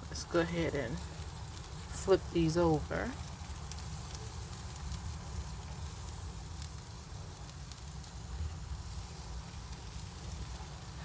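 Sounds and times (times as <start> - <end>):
food sizzling on grill: 0.0 - 11.0
small crackles and pops: 0.0 - 11.0.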